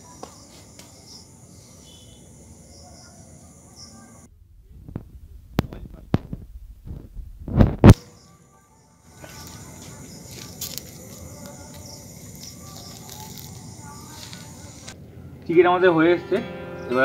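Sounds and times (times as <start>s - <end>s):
crickets chirping: 0.0s - 5.1s, 5.7s - 17.0s.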